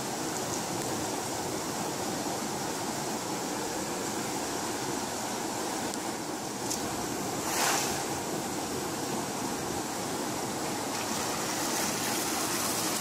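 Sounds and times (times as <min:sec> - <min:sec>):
water rushing through dam gates: 0:00.0 - 0:13.0.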